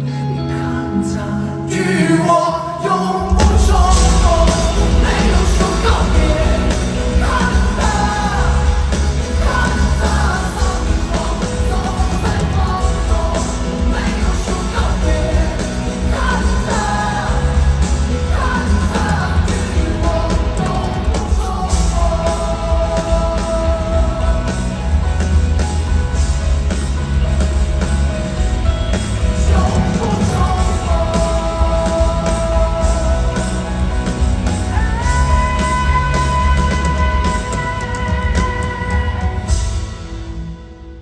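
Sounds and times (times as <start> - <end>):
live band music: 0.0 - 41.0
heavy steady bass: 3.3 - 40.2.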